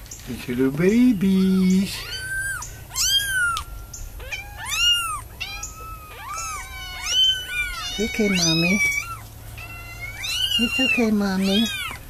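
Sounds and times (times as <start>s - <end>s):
kitten mewing: 1.2s - 12.0s.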